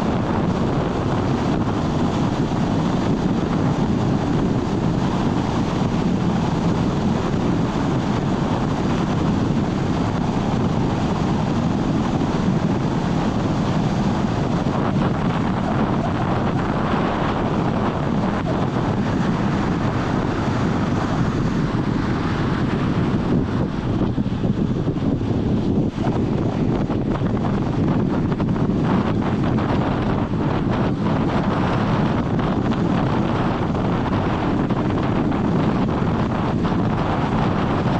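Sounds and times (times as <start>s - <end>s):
car road and wind noise: 0.0s - 37.9s
wind buffeting microphone: 0.0s - 37.9s.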